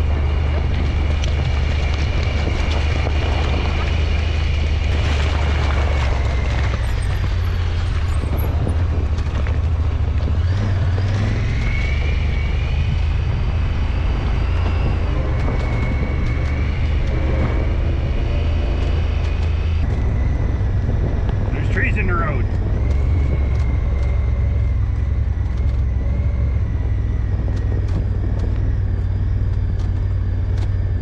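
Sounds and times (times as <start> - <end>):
high engine whine: 0.0 - 31.0
utility vehicle engine rumble: 0.0 - 31.0.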